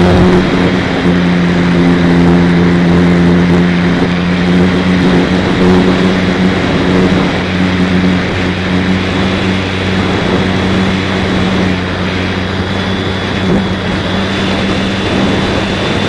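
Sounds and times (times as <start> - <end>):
propeller engine drone: 0.0 - 16.0
wind noise: 0.0 - 16.0.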